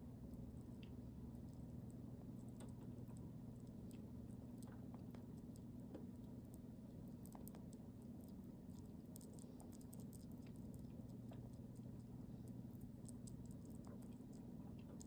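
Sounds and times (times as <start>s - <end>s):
sugar glider eating clicks: 0.0s - 15.0s.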